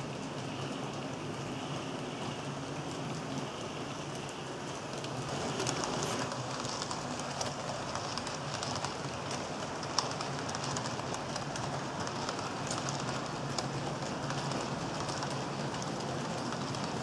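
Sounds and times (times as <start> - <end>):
wheels clicking over rail joints: 0.1 - 17.0
model train wheels rushing: 0.4 - 17.0.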